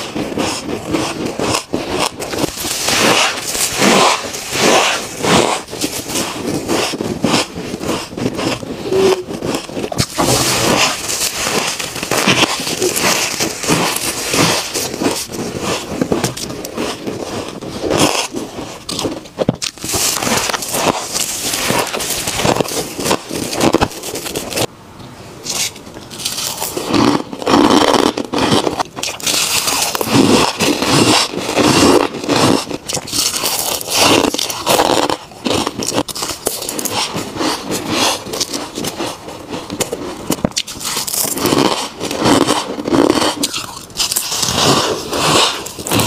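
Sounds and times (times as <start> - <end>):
crunching and chewing ice: 0.0 - 24.7, 25.4 - 46.0.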